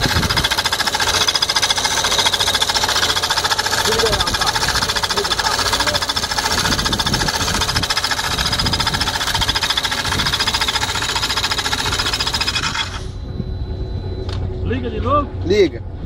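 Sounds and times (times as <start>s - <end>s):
engine rattling knock: 0.0s - 12.9s.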